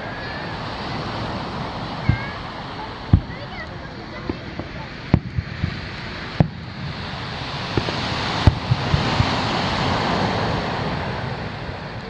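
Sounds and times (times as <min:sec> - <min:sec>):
distant fireworks bursting: 0:00.0 - 0:12.0
surf washing onto beach: 0:00.0 - 0:12.0.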